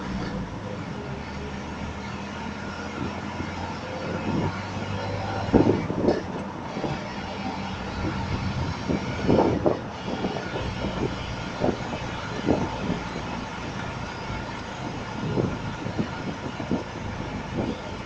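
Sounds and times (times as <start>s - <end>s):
road and wind noise: 0.0s - 18.0s
truck engine drone: 0.0s - 18.0s.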